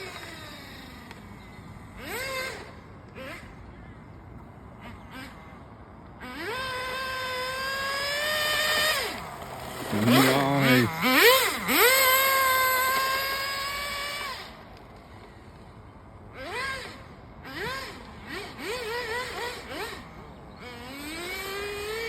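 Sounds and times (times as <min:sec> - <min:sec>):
small glow engine revving: 0:00.0 - 0:03.6, 0:04.8 - 0:15.3, 0:16.3 - 0:22.0.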